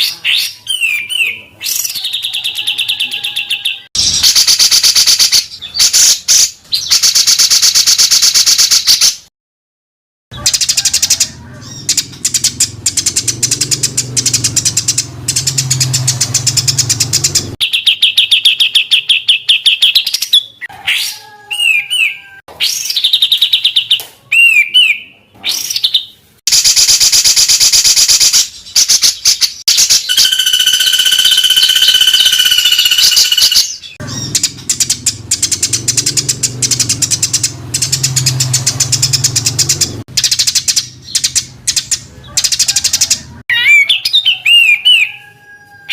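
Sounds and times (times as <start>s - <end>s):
songbird chattering and whistling: 0.0s - 9.2s, 10.4s - 45.4s.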